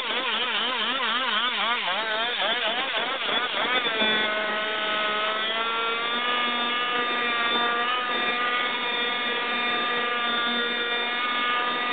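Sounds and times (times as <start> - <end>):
two-stroke engine at high revs: 0.0 - 11.9.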